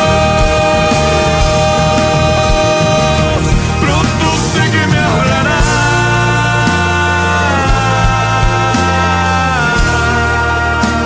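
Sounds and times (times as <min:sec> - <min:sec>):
instrumental pop ballad: 0:00.0 - 0:11.0.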